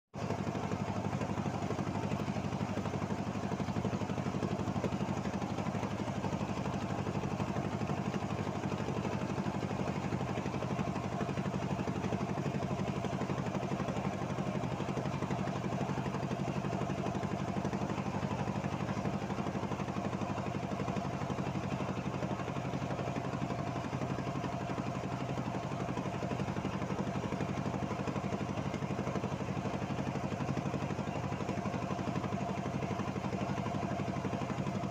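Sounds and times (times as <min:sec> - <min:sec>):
boat engine droning: 0:00.2 - 0:34.9.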